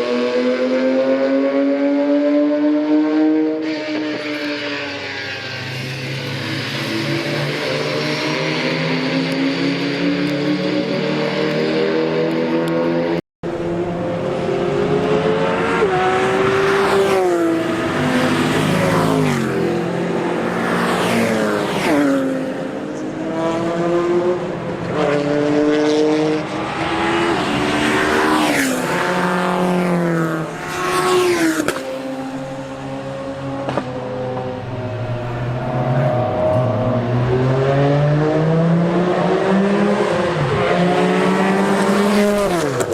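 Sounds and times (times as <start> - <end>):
race car engine at high revs: 0.0 - 42.9.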